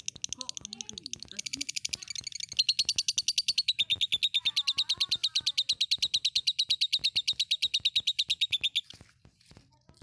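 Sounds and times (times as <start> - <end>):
lovebird chattering trill: 0.0 - 8.9.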